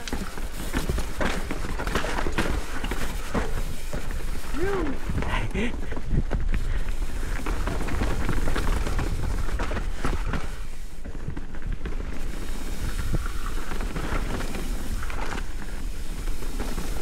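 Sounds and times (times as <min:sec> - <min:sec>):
bike rattling: 0:00.0 - 0:17.0
tyres crunching over stones: 0:00.0 - 0:17.0.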